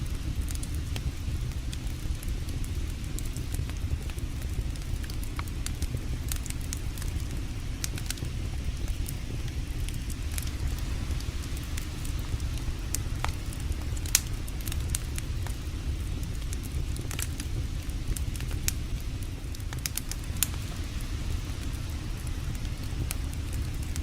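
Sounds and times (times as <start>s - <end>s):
campfire crackling: 0.0s - 24.0s
sharp fire pops: 0.1s - 24.0s.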